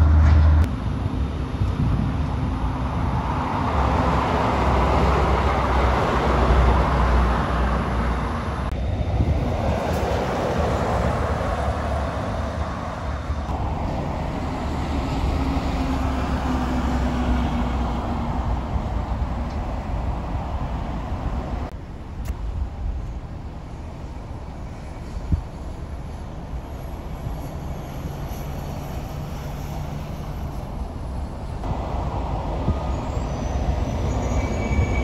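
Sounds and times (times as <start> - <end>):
heavy trucks driving past: 0.0 - 35.0.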